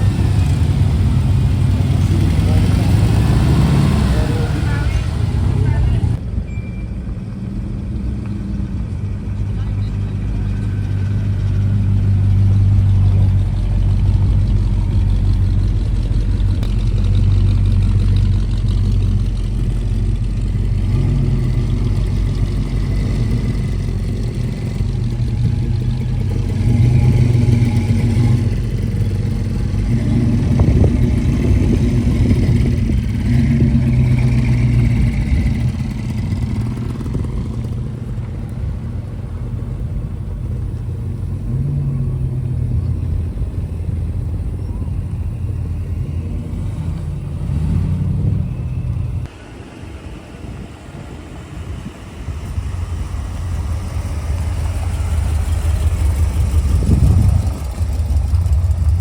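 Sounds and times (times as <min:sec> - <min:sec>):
car engine revving: 0:00.0 - 0:06.2, 0:08.6 - 0:49.5, 0:50.4 - 0:59.0.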